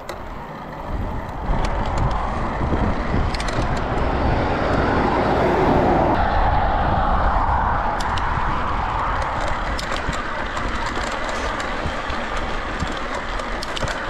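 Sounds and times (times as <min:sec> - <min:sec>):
bike rattle: 0:00.0 - 0:05.1, 0:07.4 - 0:14.0
bike tyres rolling on gravel: 0:00.0 - 0:05.3, 0:06.1 - 0:14.0.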